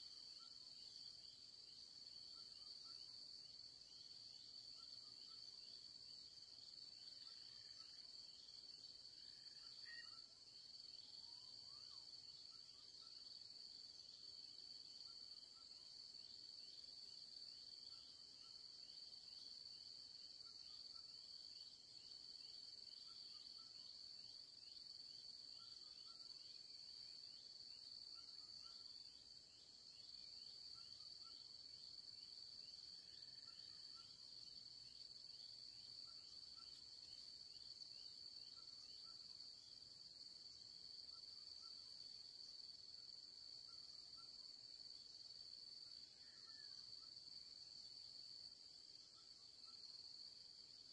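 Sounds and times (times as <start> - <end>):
insect drone: 0.0 - 50.9.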